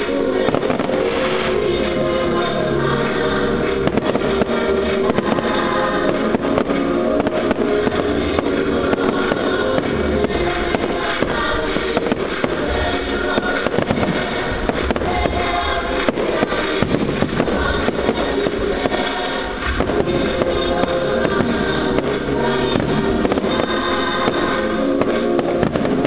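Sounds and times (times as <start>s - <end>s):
fireworks bangs and crackles: 0.0s - 26.0s
loud music: 0.0s - 26.0s.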